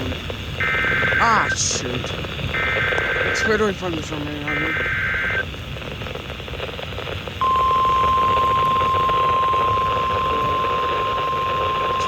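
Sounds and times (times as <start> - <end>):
steady warning alarm tone: 0.0 - 5.4, 7.4 - 12.0
digital data burst: 0.0 - 5.5, 7.4 - 12.0
radio hiss: 0.0 - 12.0.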